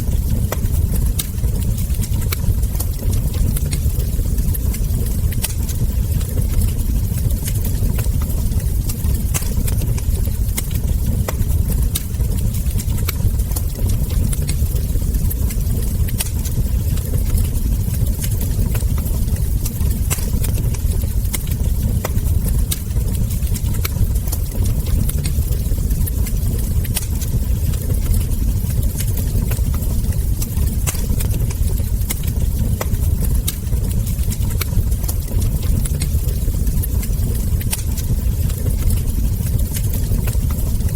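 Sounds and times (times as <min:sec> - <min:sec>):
low rumble of burning logs: 0:00.0 - 0:40.9
wood fire crackling: 0:00.0 - 0:40.9.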